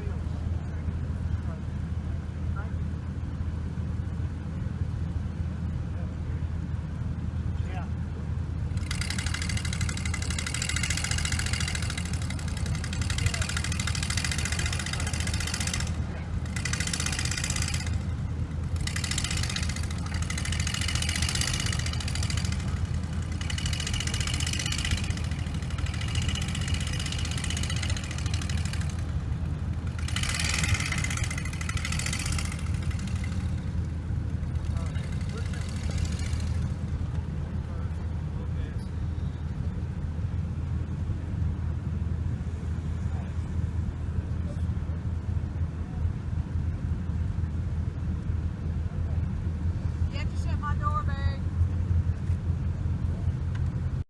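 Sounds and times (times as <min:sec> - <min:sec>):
car engine and road drone: 0:00.0 - 0:54.0.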